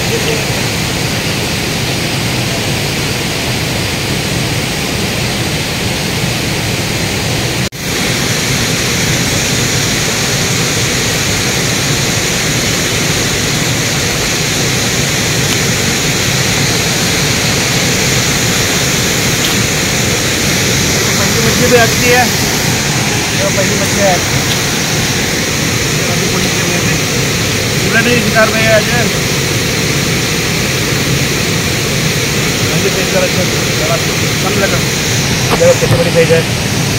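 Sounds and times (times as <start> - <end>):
water rushing over rocks: 0.0 - 36.9.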